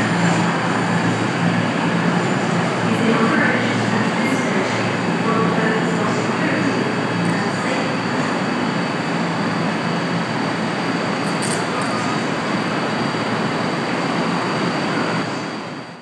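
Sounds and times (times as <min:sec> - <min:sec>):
electric train running with high whine: 0:00.0 - 0:16.0.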